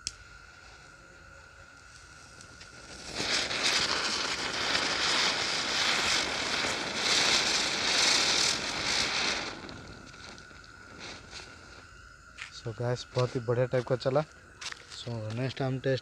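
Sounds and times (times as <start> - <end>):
firecrackers hissing and crackling: 0.0 - 16.0.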